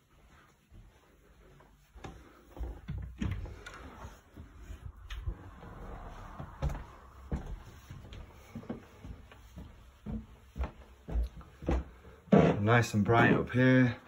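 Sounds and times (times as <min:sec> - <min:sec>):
footsteps on carpeted stairs: 0:00.0 - 0:14.0.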